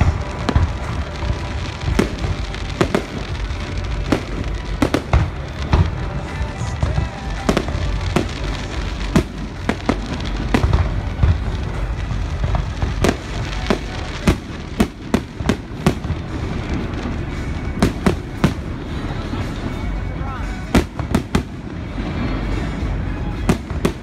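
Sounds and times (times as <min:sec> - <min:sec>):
fireworks bursting with sharp bangs: 0:00.0 - 0:24.0
steady low rumble: 0:00.0 - 0:24.0.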